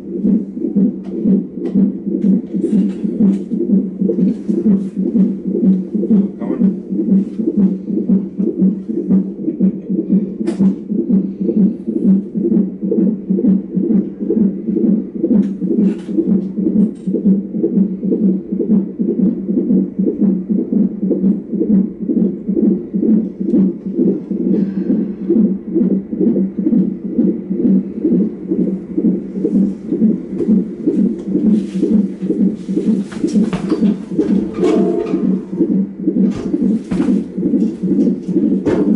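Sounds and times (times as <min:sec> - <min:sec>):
fetal heartbeat whooshing pulse: 0:00.0 - 0:38.9.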